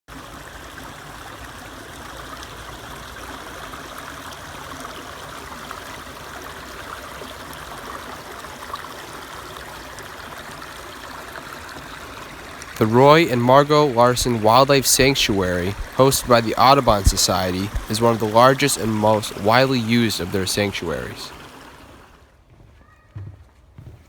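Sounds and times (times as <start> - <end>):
stream of running water: 0.1 - 22.4.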